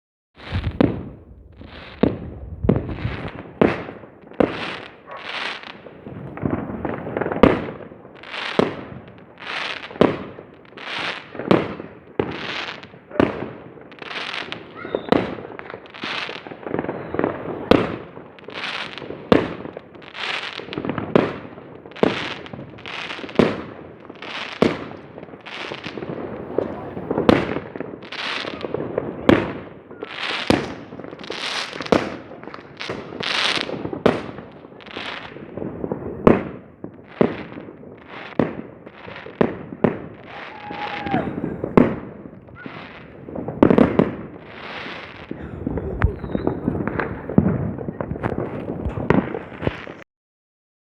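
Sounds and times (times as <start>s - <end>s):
fireworks banging and crackling: 0.4s - 50.1s.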